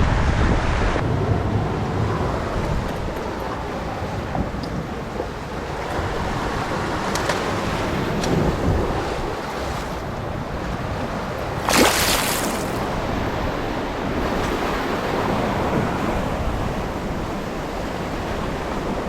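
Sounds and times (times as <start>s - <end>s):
sea waves washing against rocks: 0.0s - 19.0s
wind on microphone: 0.0s - 19.0s.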